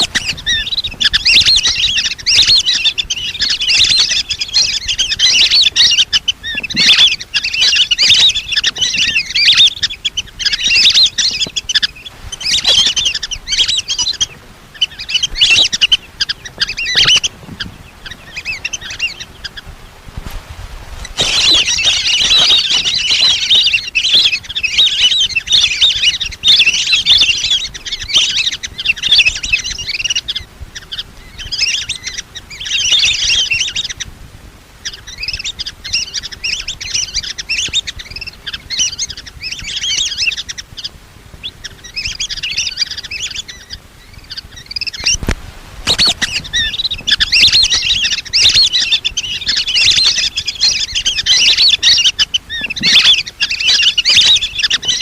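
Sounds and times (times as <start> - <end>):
ducks whistling calls: 0.0 - 34.1, 34.7 - 55.0.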